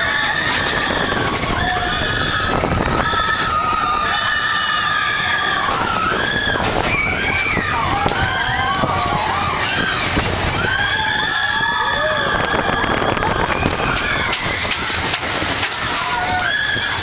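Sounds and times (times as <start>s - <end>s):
riders screaming: 0.0s - 17.0s
roller coaster rumbling on track: 0.0s - 17.0s.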